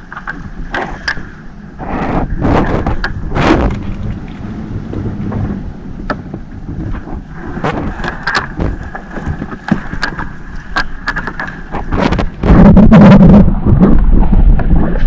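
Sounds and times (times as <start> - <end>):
thin steady whine: 0.0 - 13.8
boat noise: 0.0 - 15.0
wind rumbling on microphone: 0.0 - 15.0
sharp clicks and knocks: 0.1 - 12.7.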